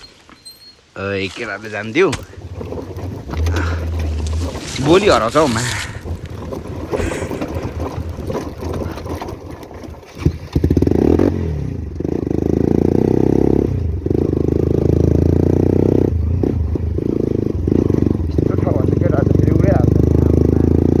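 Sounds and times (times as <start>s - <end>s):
motorcycle engine under throttle: 2.0s - 21.0s.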